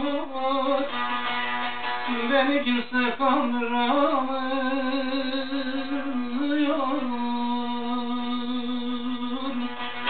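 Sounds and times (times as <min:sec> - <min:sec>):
long-necked lute strummed: 0:00.0 - 0:10.0.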